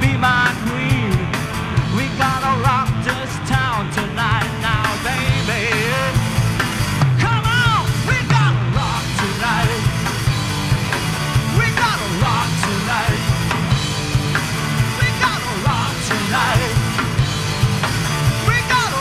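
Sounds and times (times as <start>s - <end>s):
bending lead guitar line: 0.0s - 19.0s
rock band playing live: 0.0s - 19.0s.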